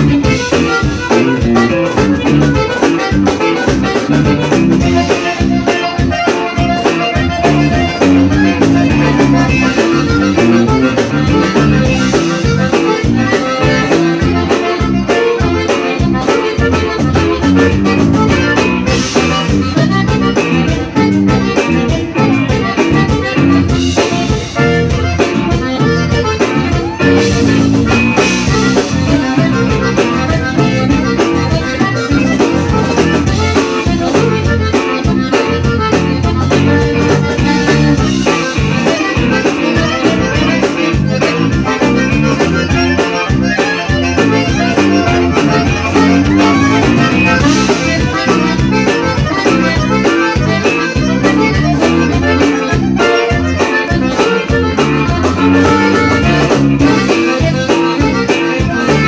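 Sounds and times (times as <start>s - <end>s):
accordions playing melody: 0.0s - 59.0s
drums: 0.0s - 59.0s
electric bass: 0.0s - 59.0s
guitar: 0.0s - 59.0s.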